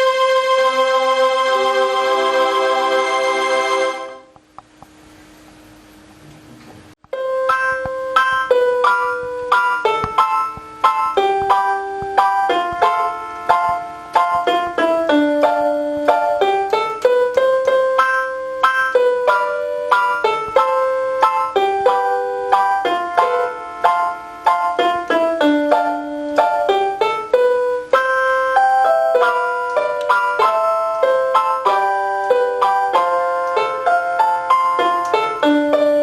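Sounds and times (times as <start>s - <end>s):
keyboard chords: 0.0s - 4.4s, 7.0s - 36.0s
portable keyboard melody: 0.0s - 4.4s, 7.0s - 36.0s.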